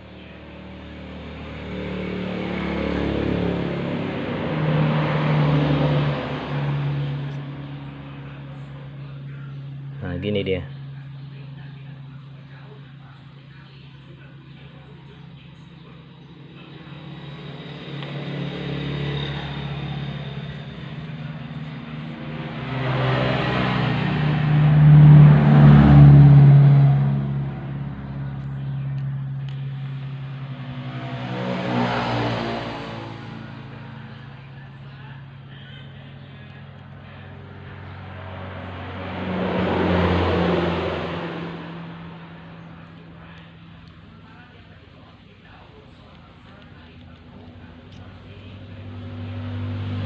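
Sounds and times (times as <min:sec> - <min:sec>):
motor engine running: 0:00.0 - 0:50.0
road vehicle passing by: 0:00.0 - 0:50.0
steady low hum: 0:00.0 - 0:50.0.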